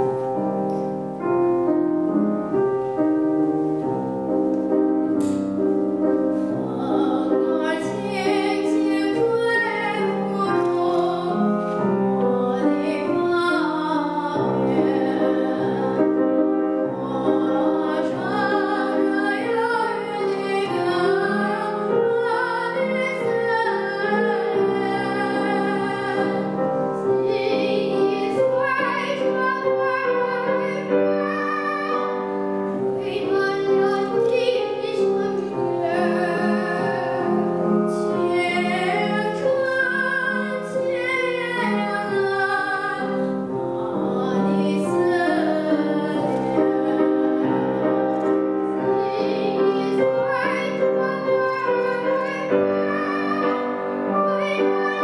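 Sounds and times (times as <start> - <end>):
girls singing a classical duet: 0.0 - 55.0
grand piano accompaniment: 0.0 - 55.0.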